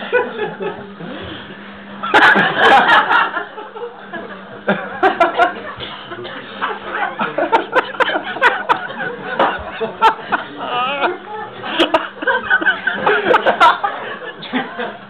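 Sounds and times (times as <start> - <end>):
men laughing: 0.0 - 1.0, 2.0 - 15.0.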